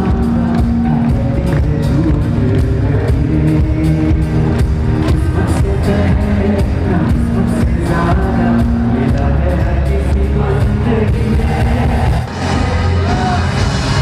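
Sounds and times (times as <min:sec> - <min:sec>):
loud pop music: 0:00.0 - 0:14.0.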